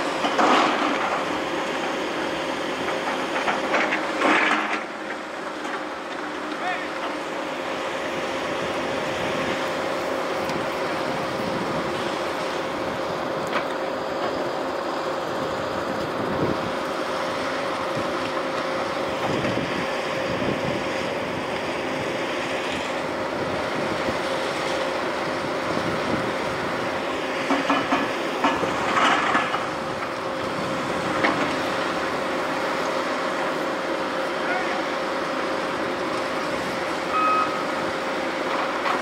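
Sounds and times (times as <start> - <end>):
excavator diesel engine whining: 0.0 - 39.0.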